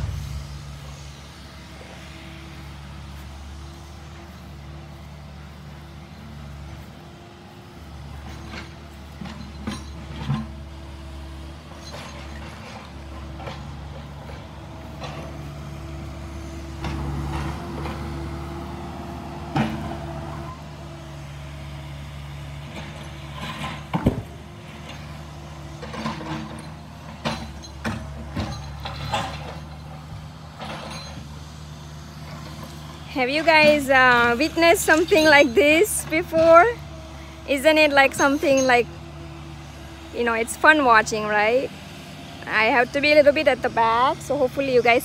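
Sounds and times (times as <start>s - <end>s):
excavator diesel engine: 0.0s - 45.0s.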